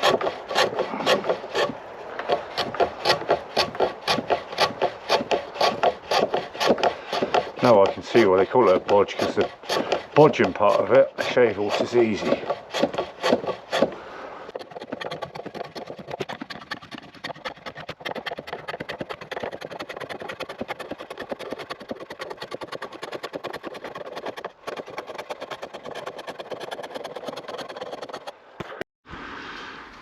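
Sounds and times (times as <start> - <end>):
wood shaving rasping strokes: 0.0 - 28.7.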